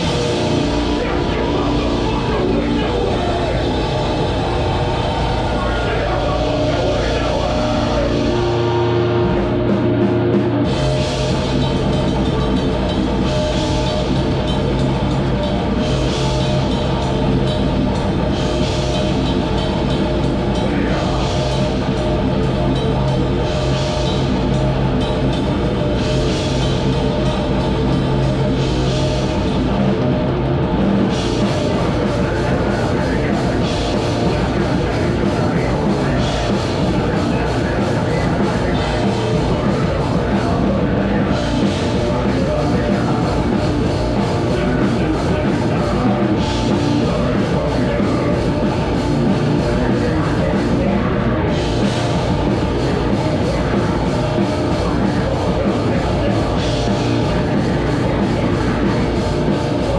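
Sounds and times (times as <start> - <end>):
drum kit with crashing cymbals: 0.0 - 59.9
heavy metal band playing live: 0.0 - 59.9.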